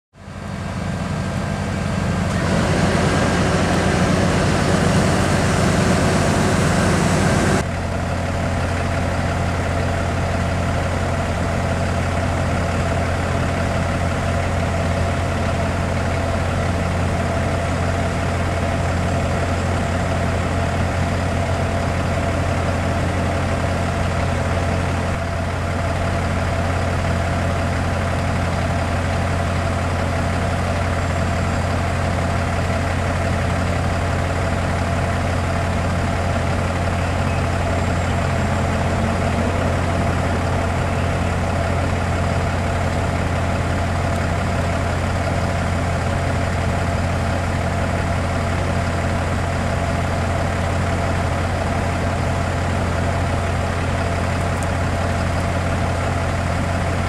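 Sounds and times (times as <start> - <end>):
diesel engine idling: 0.2 - 57.0.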